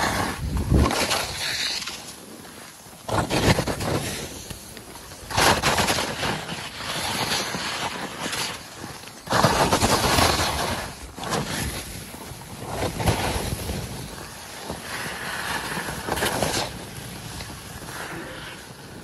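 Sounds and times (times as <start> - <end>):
skis scraping and carving snow: 0.0 - 19.0.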